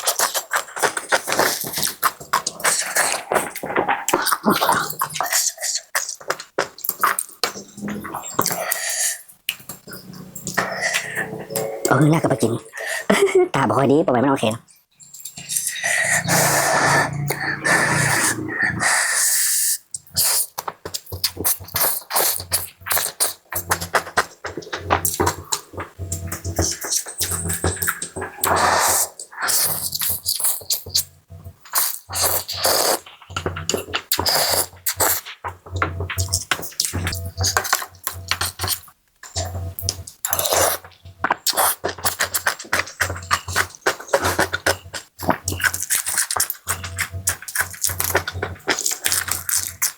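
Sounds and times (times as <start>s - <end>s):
wet chewing and lip-smacking: 0.0s - 11.3s, 15.1s - 18.4s, 20.0s - 35.4s, 36.2s - 49.9s
slurping soup: 0.0s - 13.1s, 15.1s - 31.0s, 31.6s - 35.4s, 36.3s - 49.9s.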